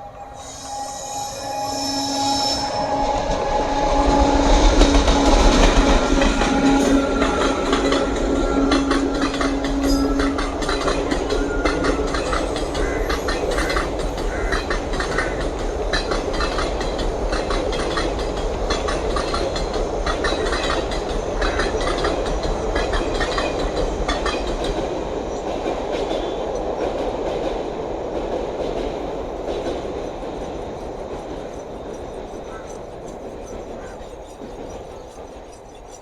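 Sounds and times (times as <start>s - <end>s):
train passing: 0.0s - 36.0s
wheels clicking over rail joints: 4.7s - 36.0s.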